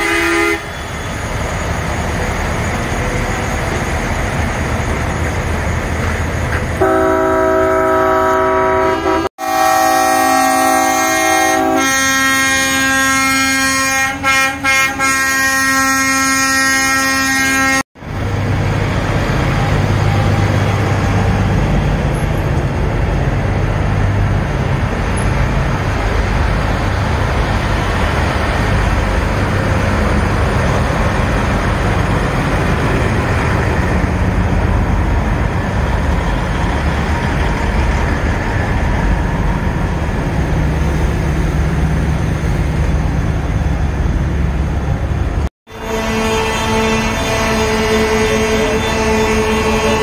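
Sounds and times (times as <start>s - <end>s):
street traffic: 0.0s - 50.0s.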